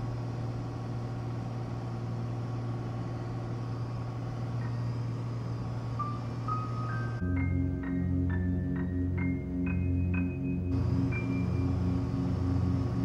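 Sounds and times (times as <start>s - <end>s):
higher engine tone: 0.0s - 13.0s
propeller plane engines droning: 0.0s - 13.0s.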